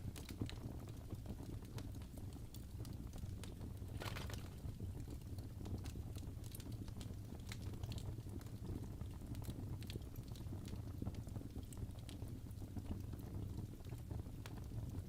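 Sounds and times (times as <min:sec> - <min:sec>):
low rumble of fire: 0:00.0 - 0:15.0
burning wood popping and snapping: 0:00.1 - 0:12.3.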